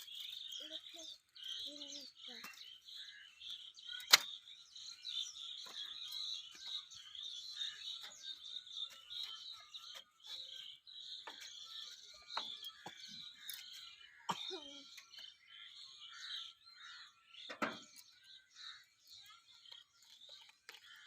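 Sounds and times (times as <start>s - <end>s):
chirping creatures chorus: 0.0s - 21.0s.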